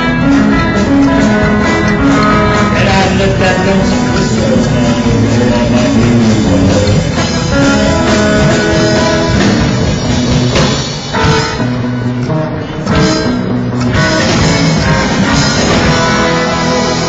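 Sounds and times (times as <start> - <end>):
steady drum beat: 0.0 - 11.9, 12.9 - 17.0
electric guitar notes: 0.0 - 17.0
instrumental background music: 0.0 - 17.0.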